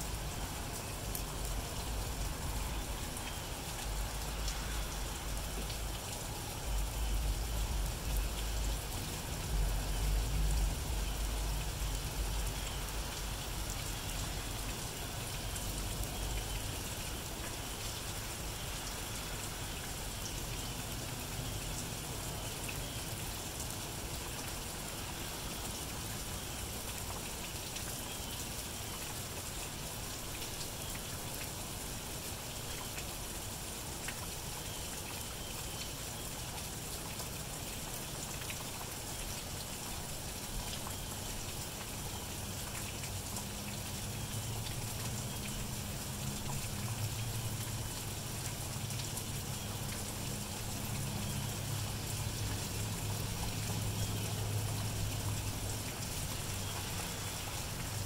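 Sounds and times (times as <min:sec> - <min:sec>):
rain on wet road: 0:00.0 - 0:58.0.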